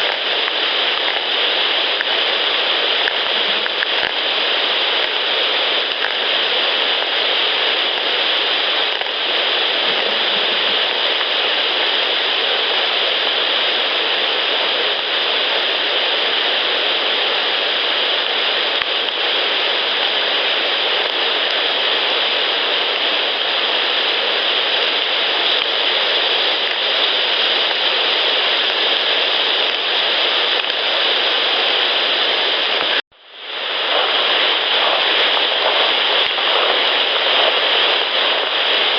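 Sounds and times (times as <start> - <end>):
loud steady hiss: 0.0 - 38.9.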